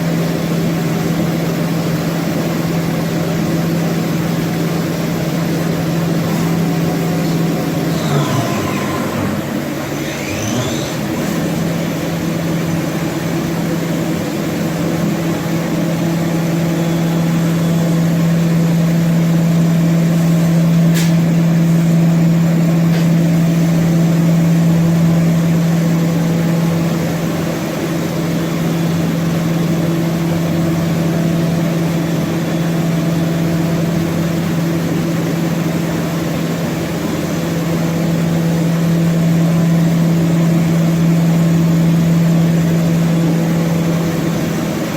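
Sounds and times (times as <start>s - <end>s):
machine humming: 2.0s - 44.9s.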